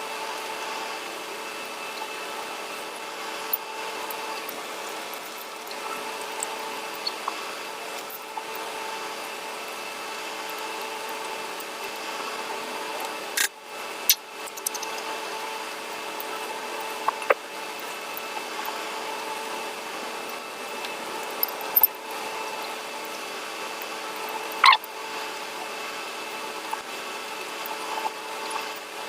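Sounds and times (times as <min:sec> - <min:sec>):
constant hum: 0:00.0 - 0:29.0.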